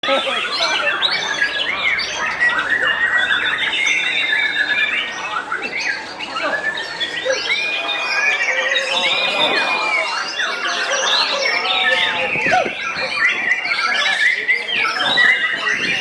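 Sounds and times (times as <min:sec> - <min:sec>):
birds singing whistled phrases: 0:00.0 - 0:16.0.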